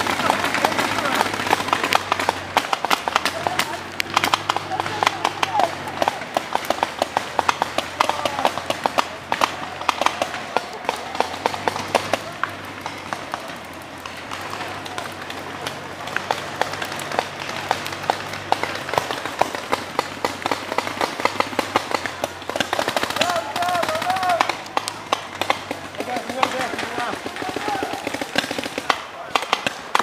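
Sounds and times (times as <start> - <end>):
paintball markers firing: 0.0 - 30.0.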